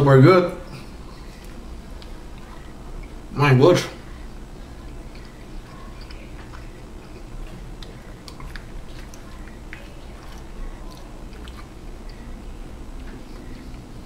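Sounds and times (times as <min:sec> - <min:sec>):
man chewing: 0:00.7 - 0:03.3, 0:04.0 - 0:14.0.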